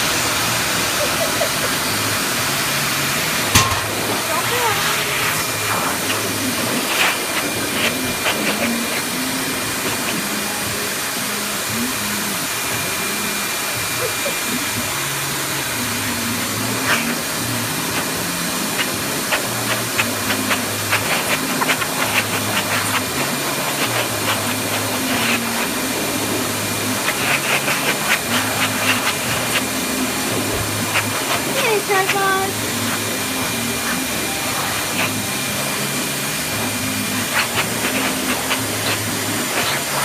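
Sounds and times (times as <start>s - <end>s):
hair dryer blowing: 0.0s - 40.0s.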